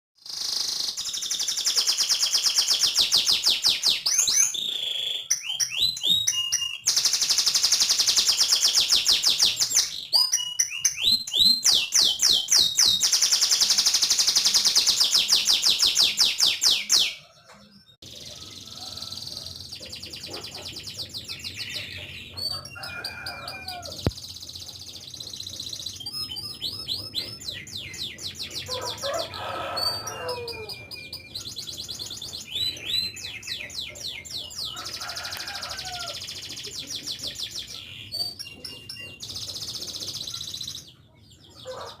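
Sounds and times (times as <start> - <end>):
canary singing trills: 0.2 - 42.0.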